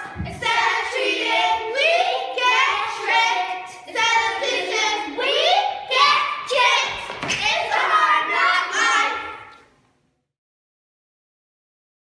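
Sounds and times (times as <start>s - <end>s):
girls singing together: 0.0s - 9.6s.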